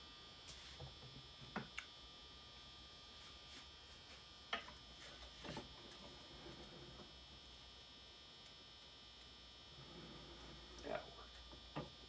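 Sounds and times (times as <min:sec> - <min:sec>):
fluorescent lights buzzing: 0:00.1 - 0:12.0.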